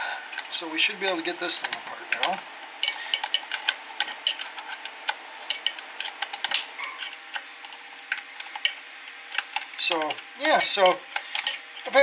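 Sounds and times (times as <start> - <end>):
small wrench metallic clicks: 1.6 - 12.0.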